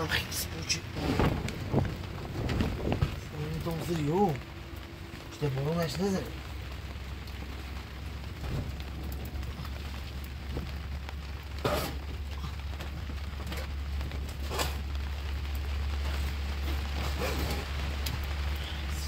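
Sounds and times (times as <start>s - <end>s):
heavy rain falling: 0.0s - 19.0s
low hum: 0.0s - 19.0s.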